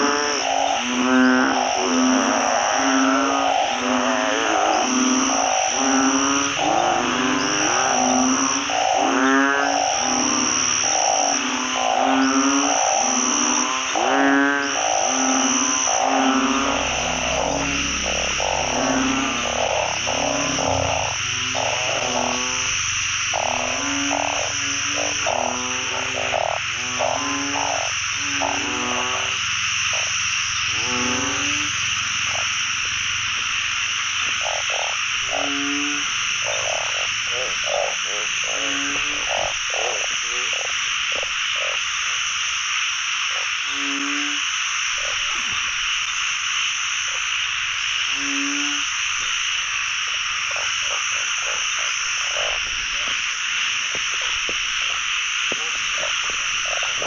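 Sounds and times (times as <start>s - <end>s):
frog trilling chorus: 0.0s - 57.0s
frogs croaking: 0.0s - 57.0s.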